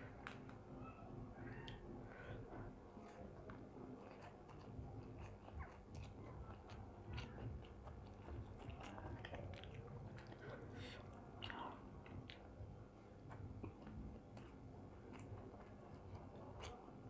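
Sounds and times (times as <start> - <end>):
chewing noodles: 0.0 - 17.0.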